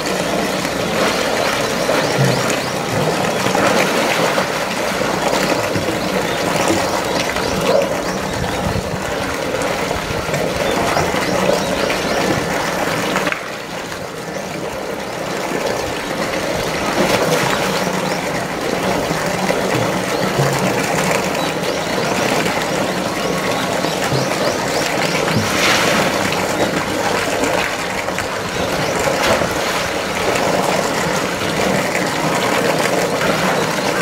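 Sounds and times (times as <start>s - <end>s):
pool water churning and splashing: 0.0s - 34.0s.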